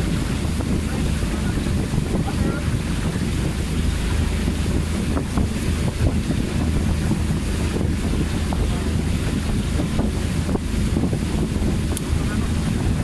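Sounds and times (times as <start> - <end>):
boat engine rumble: 0.0 - 13.0
water rushing along hull: 0.0 - 13.0
wind buffeting microphone: 0.0 - 13.0.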